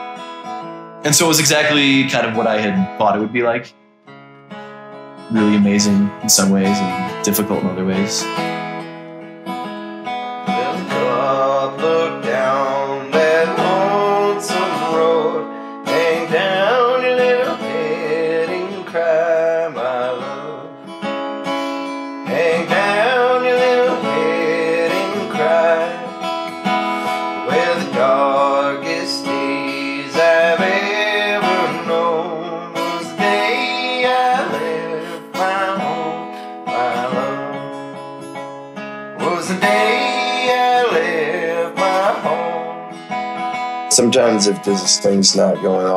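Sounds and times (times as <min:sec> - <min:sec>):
guitar strumming: 0:00.0 - 0:45.9
plucked string melody: 0:04.1 - 0:20.5, 0:21.3 - 0:45.9.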